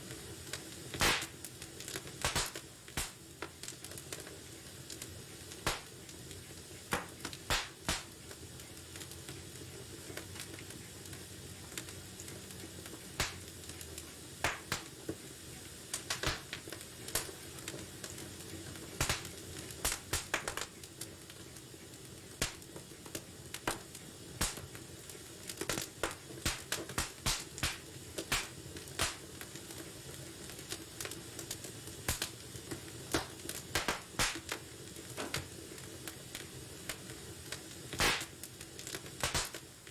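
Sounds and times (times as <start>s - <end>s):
low hiss of flames: 0.0s - 39.9s
wood fire crackling and popping: 0.0s - 39.9s.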